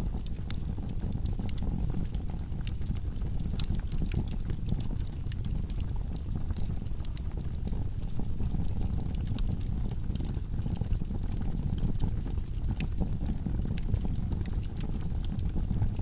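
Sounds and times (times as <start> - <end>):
logs burning in fireplace: 0.0 - 16.0.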